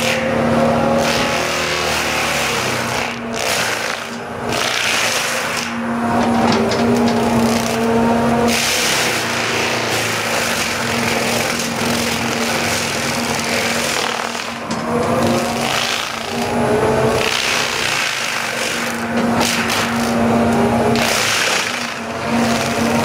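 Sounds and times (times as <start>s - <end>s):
excavator engine and hydraulics: 0.0s - 23.0s
loud rasping on tree stump: 1.0s - 5.8s, 8.5s - 20.2s, 20.9s - 23.0s.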